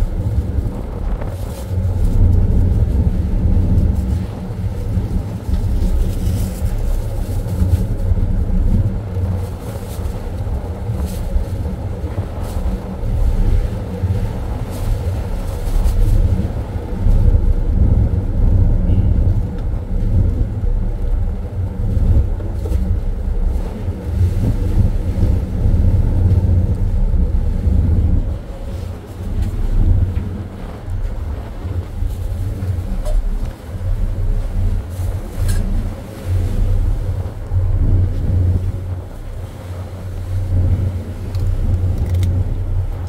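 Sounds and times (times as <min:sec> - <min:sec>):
low hum of ship machinery: 0:00.0 - 0:43.0
wind buffeting microphone: 0:00.0 - 0:43.0.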